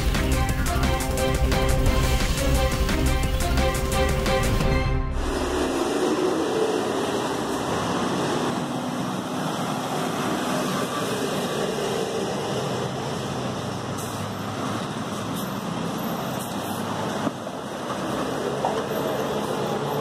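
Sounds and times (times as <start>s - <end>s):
diesel bus passing close: 0.0s - 20.0s
steady traffic hum: 0.0s - 20.0s.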